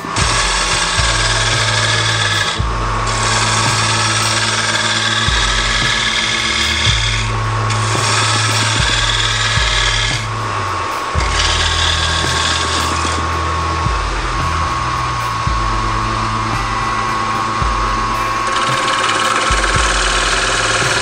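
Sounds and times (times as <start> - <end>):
tool hissing against turning wood: 0.0 - 15.5, 16.2 - 21.0
wood lathe motor whine: 0.0 - 21.0.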